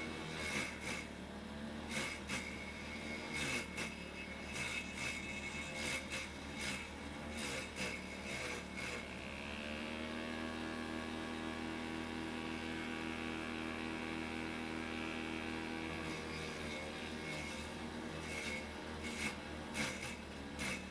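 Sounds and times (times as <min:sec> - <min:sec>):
vegetable chopper motor hum: 0:00.0 - 0:20.9.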